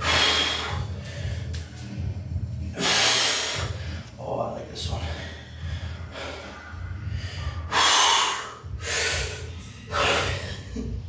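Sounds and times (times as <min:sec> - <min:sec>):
man breathing heavily: 0:00.0 - 0:04.2, 0:04.8 - 0:11.0.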